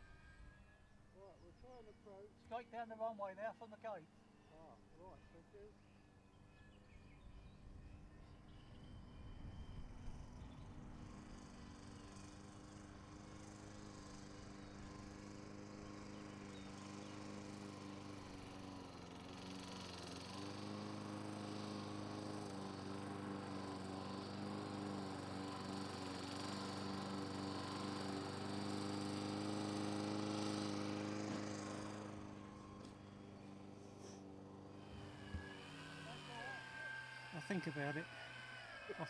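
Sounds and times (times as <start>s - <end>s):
model airplane motor buzzing: 0.0s - 39.0s.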